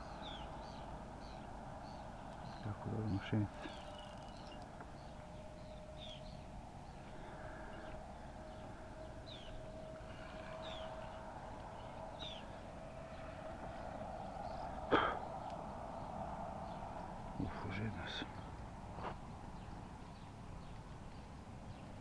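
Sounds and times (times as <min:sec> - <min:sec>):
birds chirping: 0:00.0 - 0:22.0
faint steady hum: 0:00.0 - 0:22.0.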